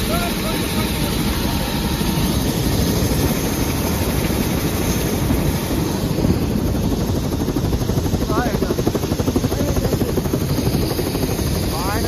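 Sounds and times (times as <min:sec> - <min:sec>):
small aircraft droning: 0:00.0 - 0:12.0.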